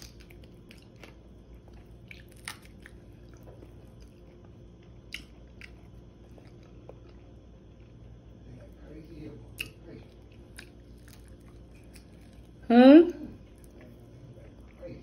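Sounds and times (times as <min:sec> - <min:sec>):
chewing crispy chicken wings: 0:00.0 - 0:15.0.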